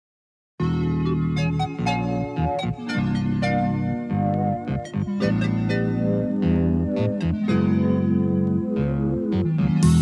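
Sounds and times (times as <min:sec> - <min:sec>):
held keyboard chords: 0:00.6 - 0:10.0.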